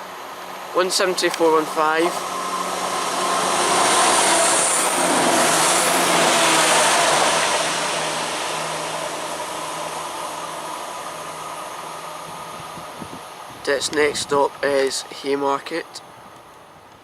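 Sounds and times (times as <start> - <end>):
low engine hum: 0.0 - 14.6
train passing: 0.0 - 17.0.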